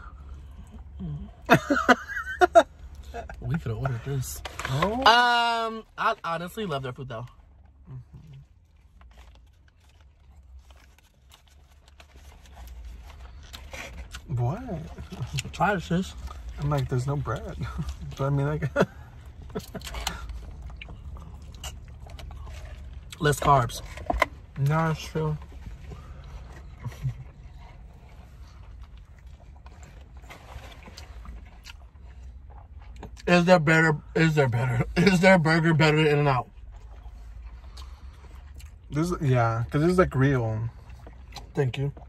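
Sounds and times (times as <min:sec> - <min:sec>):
person chewing a burger: 0:00.0 - 0:05.2, 0:07.2 - 0:42.0.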